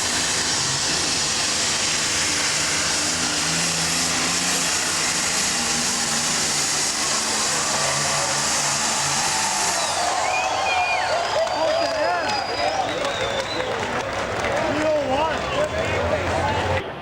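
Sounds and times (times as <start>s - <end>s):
tractor engine at full power: 0.0s - 17.0s.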